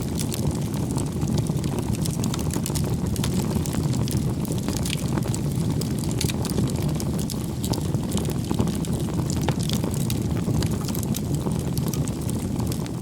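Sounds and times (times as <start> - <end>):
rush of flames: 0.0 - 13.0
wood crackling and popping: 0.0 - 13.0.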